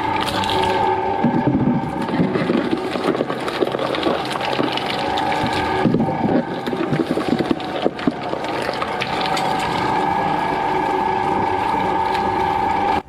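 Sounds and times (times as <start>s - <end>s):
dense crackling and clattering: 0.0s - 13.0s
heavy machine whining: 0.0s - 13.0s.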